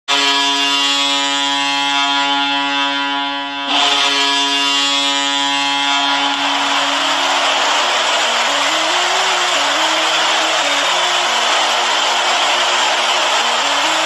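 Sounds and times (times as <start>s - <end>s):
deep reedy goal horn: 0.1s - 14.0s.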